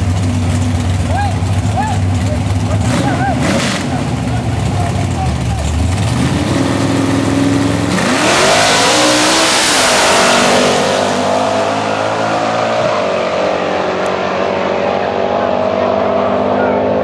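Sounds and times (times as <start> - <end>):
car engines revving and launching: 0.1 - 17.0.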